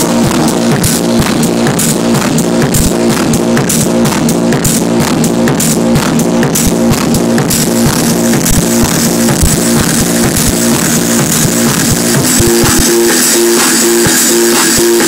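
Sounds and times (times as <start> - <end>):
loud techno music: 0.0 - 15.0.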